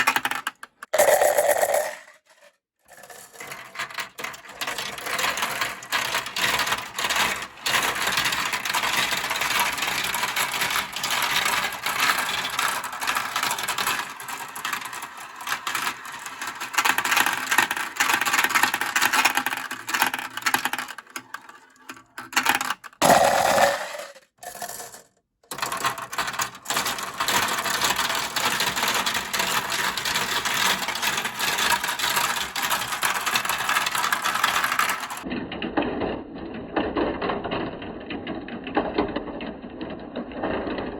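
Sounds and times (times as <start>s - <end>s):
marbles rattling down plastic track: 0.0s - 35.3s.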